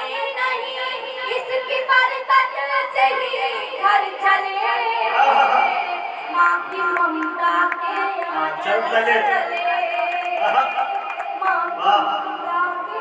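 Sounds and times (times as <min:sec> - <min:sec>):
woman singing through loudspeakers: 0:00.0 - 0:13.0.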